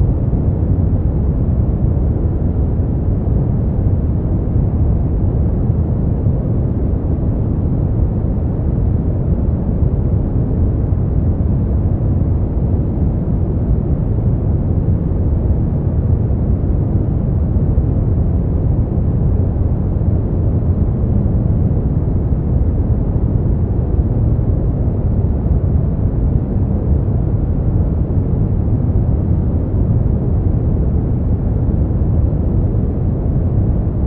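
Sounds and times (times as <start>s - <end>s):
deep steady noise rush: 0.0s - 34.0s.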